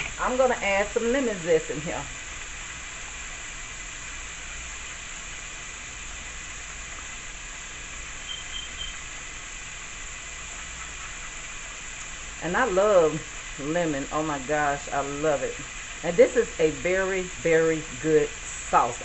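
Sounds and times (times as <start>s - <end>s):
sauce sizzling in a pan: 0.0s - 19.0s.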